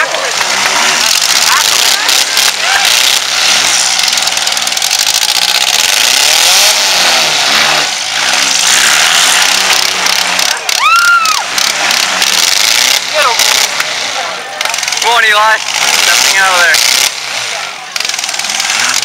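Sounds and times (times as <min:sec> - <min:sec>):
car engines at high throttle: 0:00.0 - 0:19.0
wheels spinning in dirt: 0:00.0 - 0:19.0.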